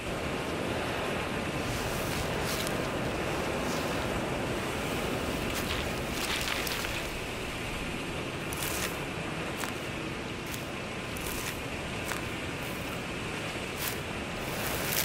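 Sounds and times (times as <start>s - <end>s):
steady rushing hiss: 0.0s - 15.0s
dry scratchy dust rustles: 1.6s - 15.0s.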